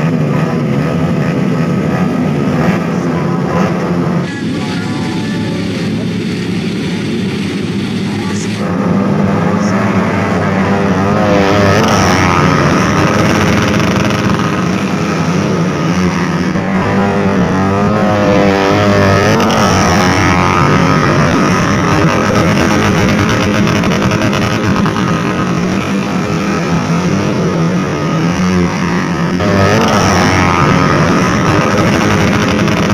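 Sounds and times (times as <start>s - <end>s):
race motorcycles revving: 0.0s - 32.9s.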